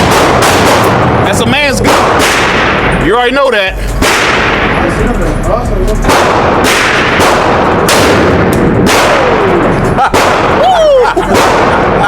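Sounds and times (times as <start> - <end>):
pistol gunshots: 0.0 - 3.2, 3.9 - 5.0, 6.0 - 12.0.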